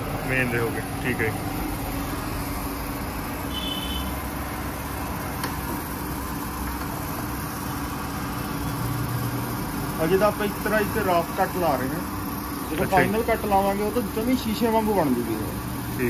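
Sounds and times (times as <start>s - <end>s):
grinding machine humming: 0.0s - 16.0s.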